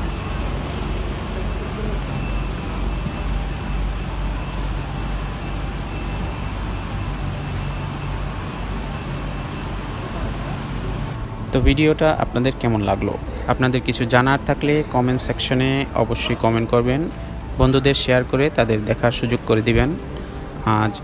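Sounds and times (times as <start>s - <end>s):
bus engine idling with whine: 0.0s - 21.0s
faint passenger voices: 0.0s - 21.0s.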